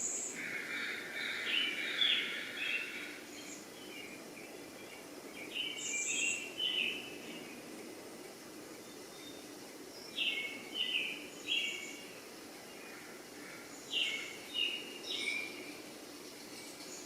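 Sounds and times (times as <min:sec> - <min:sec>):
bird chirping: 0:00.0 - 0:07.7, 0:08.8 - 0:12.8, 0:13.6 - 0:17.0
low background noise: 0:00.0 - 0:17.0.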